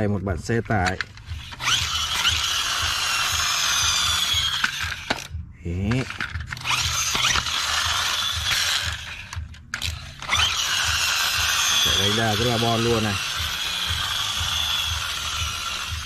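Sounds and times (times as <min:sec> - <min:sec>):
toy truck flywheel whirring: 0:00.8 - 0:05.3, 0:05.9 - 0:16.0.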